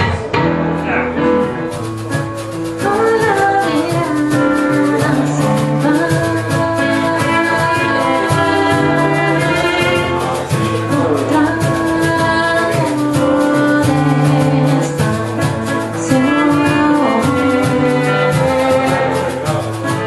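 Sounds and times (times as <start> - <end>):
person singing: 0.0 - 20.0
strummed guitar: 0.0 - 20.0.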